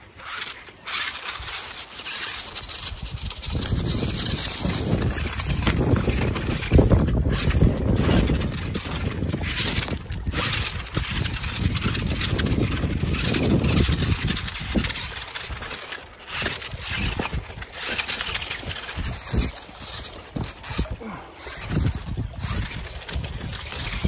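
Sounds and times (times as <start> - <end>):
toy car tyres clattering over stones: 0.0 - 24.0
wind buffeting microphone: 2.6 - 15.7, 16.3 - 24.0.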